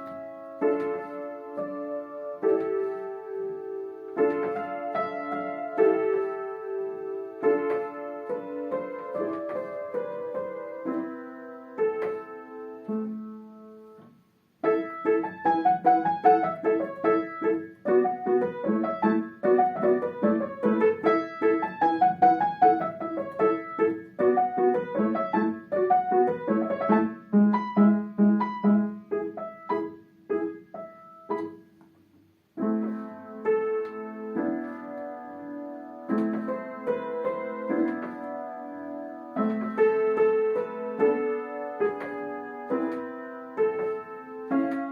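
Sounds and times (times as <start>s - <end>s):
solo piano quick notes: 0.0s - 44.9s.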